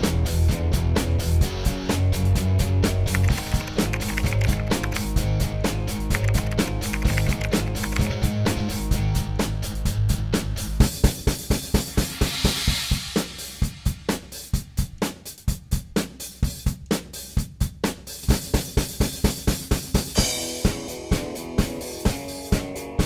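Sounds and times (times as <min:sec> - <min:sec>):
music with drum-kit beat: 0:00.0 - 0:23.0.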